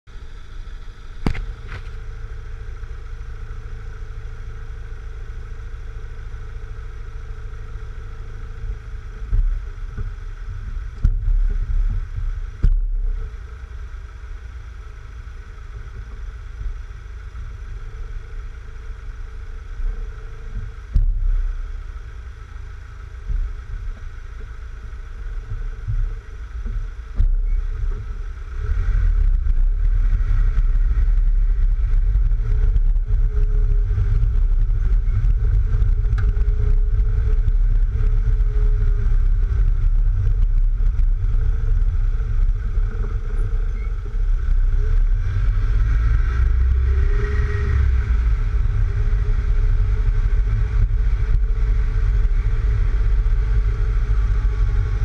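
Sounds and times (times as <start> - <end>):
car engine idling: 0.0 - 55.0
wind rumble on microphone: 0.1 - 55.0.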